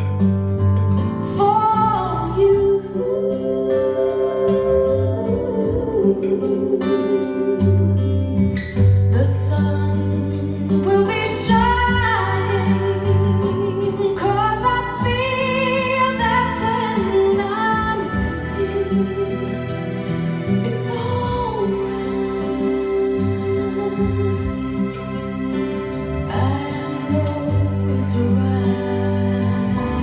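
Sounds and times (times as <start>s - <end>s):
soft accompaniment with low bass: 0.0s - 30.0s
woman singing with vibrato: 1.2s - 30.0s.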